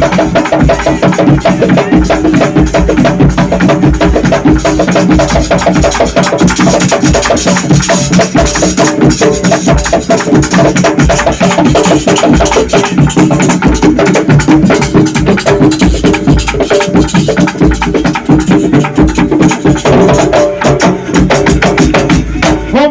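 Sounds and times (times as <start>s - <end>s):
deep bass drum beats: 0.0s - 22.9s
rapid sharp drum strokes: 0.0s - 22.9s
steady pitched backing: 0.0s - 22.9s.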